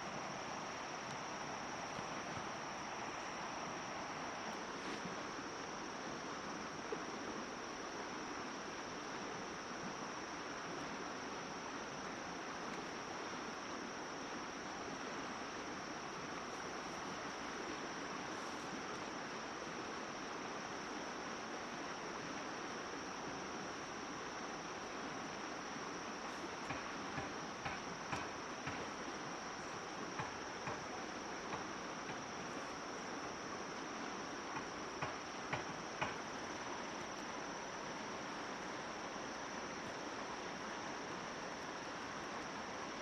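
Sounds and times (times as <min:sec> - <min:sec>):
even hiss: 0:00.0 - 0:43.0.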